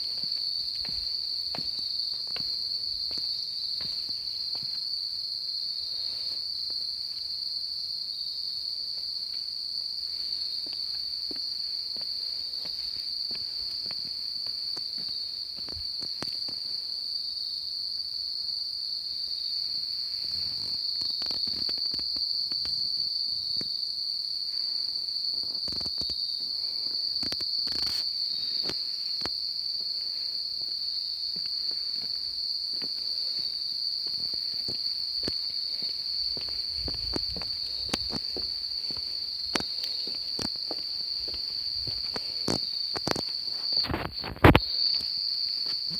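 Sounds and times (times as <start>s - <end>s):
chorus of insects calling: 0.0s - 45.9s.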